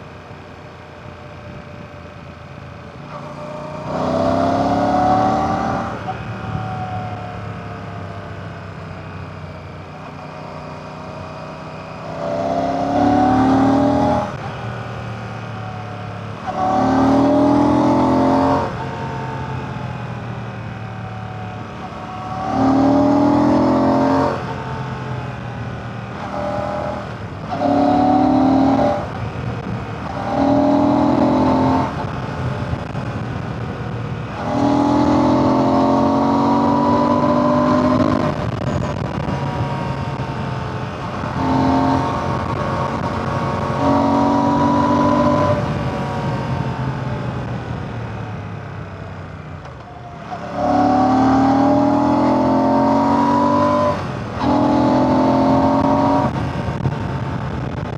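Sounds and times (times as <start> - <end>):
motorcycle engine revving: 2.8 - 7.7, 8.8 - 57.9.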